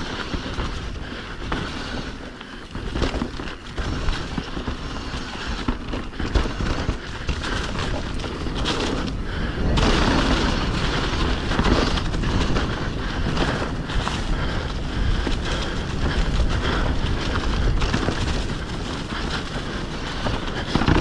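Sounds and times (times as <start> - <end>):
bike rattling: 0.0 - 21.0
bike tyre noise on dirt: 0.0 - 21.0
wind buffeting the microphone: 0.0 - 21.0.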